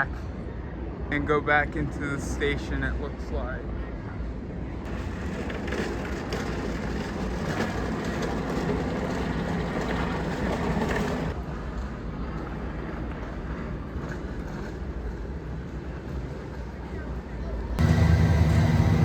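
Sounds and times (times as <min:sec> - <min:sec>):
roller coaster rumbling on track: 0:00.0 - 0:19.0.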